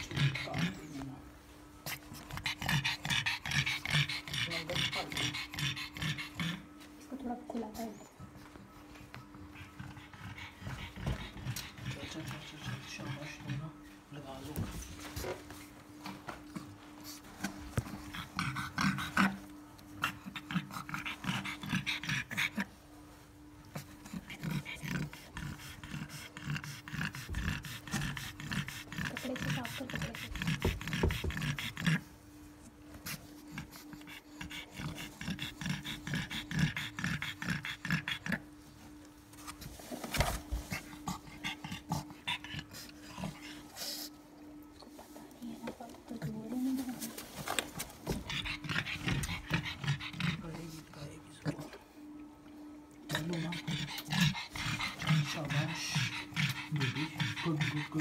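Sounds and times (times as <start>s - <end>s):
dog panting: 0.0s - 52.2s, 53.0s - 58.0s.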